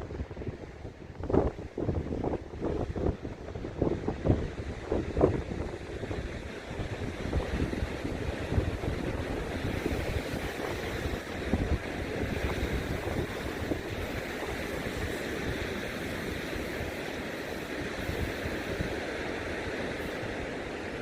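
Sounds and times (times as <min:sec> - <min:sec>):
wind buffeting microphone: 0:00.0 - 0:21.0
ocean surf: 0:00.1 - 0:21.0.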